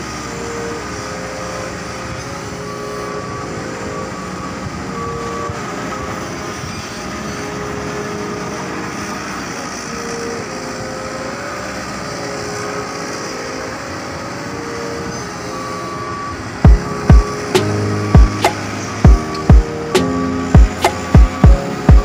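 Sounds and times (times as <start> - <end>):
heavy machinery running: 0.0 - 22.0.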